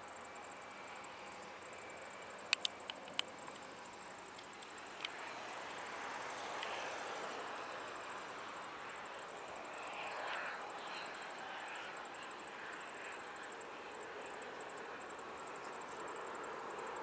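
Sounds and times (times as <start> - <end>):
distant jet engines whooshing: 0.0 - 17.0.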